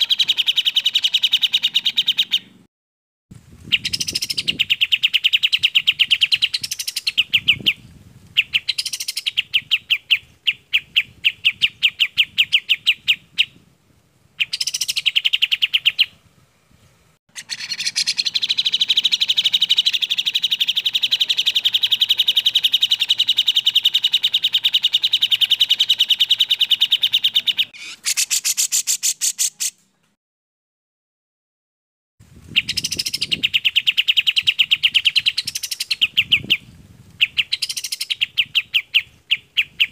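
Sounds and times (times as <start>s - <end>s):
bird chattering trills: 0.0s - 2.6s, 3.7s - 7.8s, 8.4s - 13.5s, 14.4s - 16.2s, 17.3s - 29.8s, 32.6s - 36.6s, 37.2s - 39.9s.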